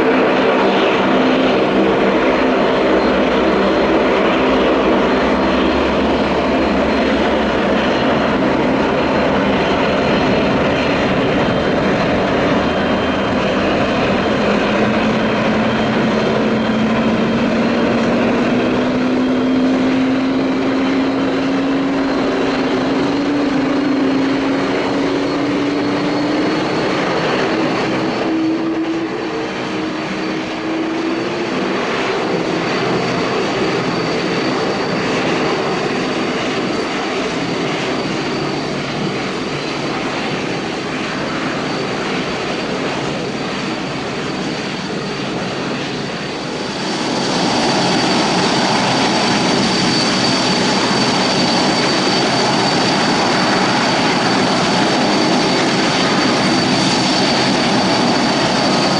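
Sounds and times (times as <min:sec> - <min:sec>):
high-pitched jet whine: 0:00.0 - 0:58.9
jet engines departing: 0:00.0 - 0:58.9
jet on landing approach: 0:00.0 - 0:58.9.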